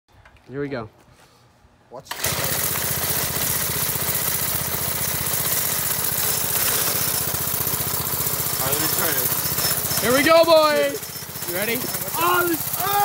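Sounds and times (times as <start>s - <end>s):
small engine running: 2.1s - 13.0s.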